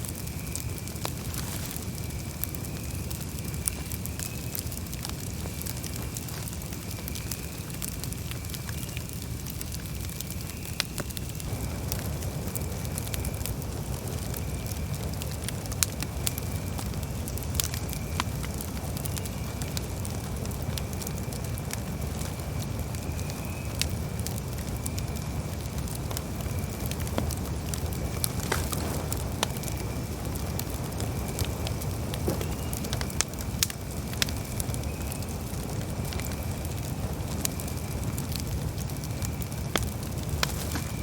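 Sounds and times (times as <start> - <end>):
campfire crackling and popping: 0.0 - 41.0
low rumble of flames: 0.0 - 41.0.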